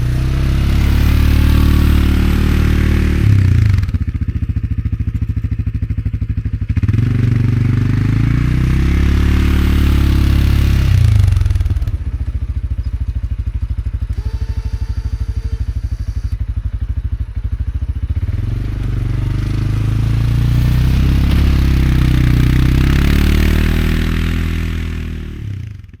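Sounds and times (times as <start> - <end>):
atv engine running under load: 0.0 - 26.0.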